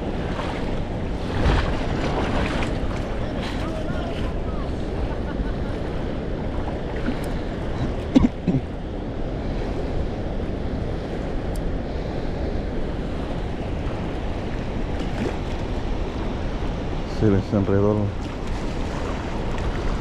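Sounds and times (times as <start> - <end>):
wind and water rushing: 0.0 - 20.0.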